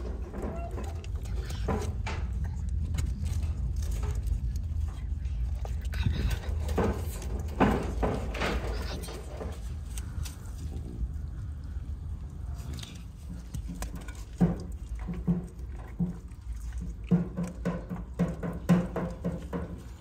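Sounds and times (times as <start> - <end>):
dog chewing food: 0.0 - 20.0.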